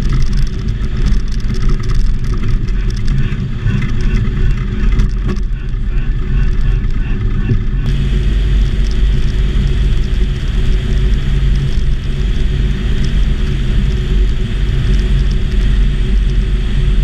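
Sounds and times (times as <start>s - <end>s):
airplane engine and propeller: 0.0s - 17.0s.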